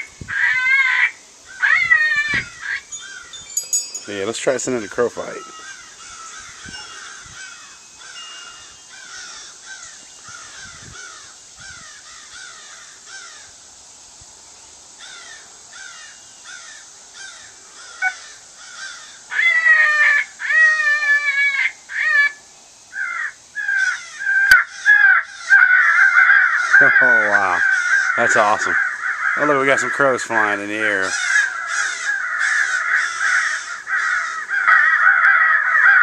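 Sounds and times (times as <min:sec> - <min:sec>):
crows cawing: 0:00.0 - 0:03.6, 0:05.1 - 0:13.6, 0:15.0 - 0:36.0.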